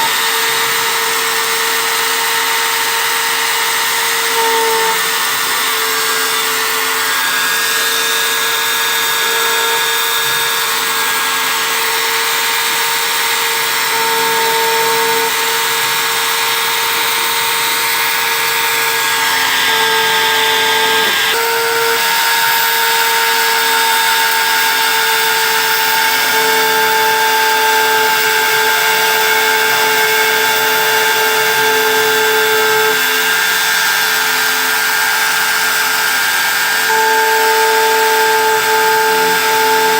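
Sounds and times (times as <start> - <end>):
engraving machine motor whine: 0.0 - 39.9.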